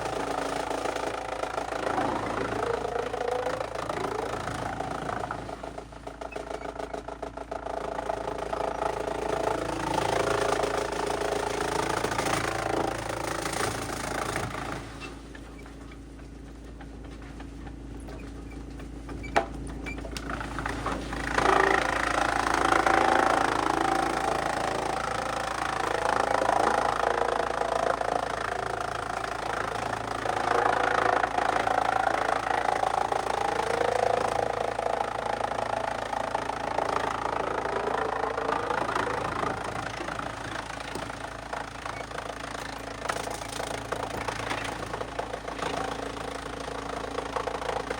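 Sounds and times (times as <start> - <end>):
wood being shredded: 0.0 - 47.9
wood chipper engine running: 0.0 - 47.9.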